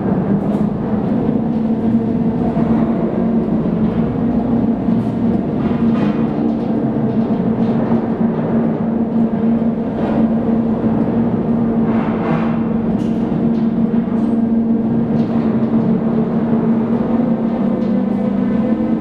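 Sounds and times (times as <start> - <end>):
turret machinery humming: 0.0 - 19.0.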